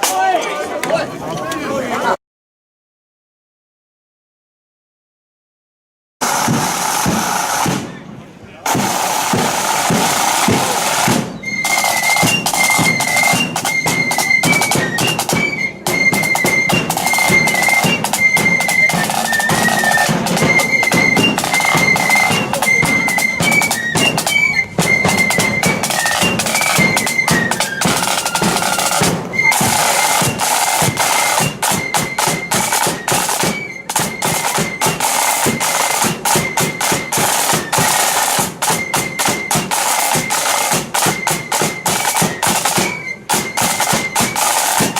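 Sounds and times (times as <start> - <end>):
snare drum rolls: 6.2 - 8.0, 8.6 - 44.9
heavy drum beats: 6.2 - 44.9
flutes playing melody: 8.7 - 44.9.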